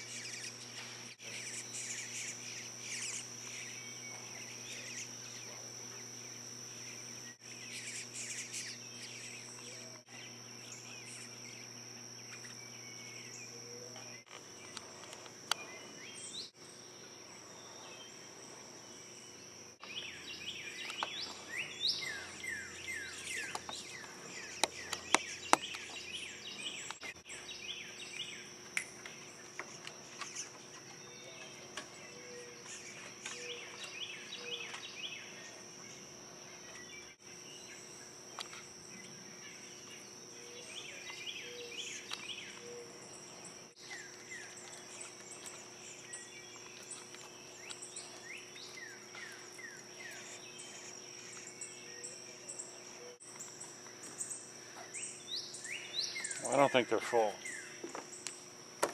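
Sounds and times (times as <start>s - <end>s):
high-pitched insect drone: 0.0s - 58.5s
bluebirds chirping: 0.0s - 58.6s.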